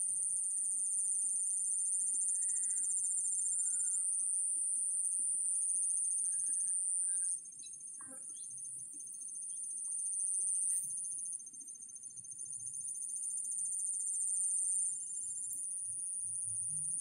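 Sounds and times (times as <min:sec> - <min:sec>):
high-pitched insect drone: 0:00.0 - 0:17.0
pulsing insect trill: 0:00.0 - 0:17.0.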